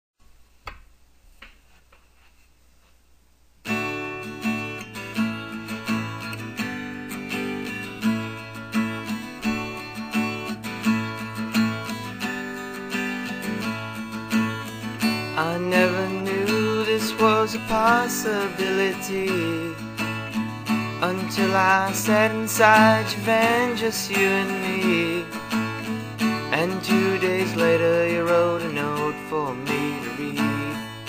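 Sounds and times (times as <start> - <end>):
acoustic guitar strumming: 3.6 - 31.0.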